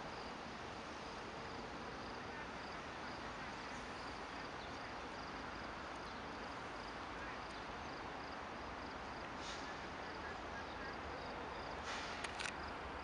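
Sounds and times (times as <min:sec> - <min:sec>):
faint high insect chirp: 0:00.0 - 0:13.0
steady outdoor hiss: 0:00.0 - 0:13.0.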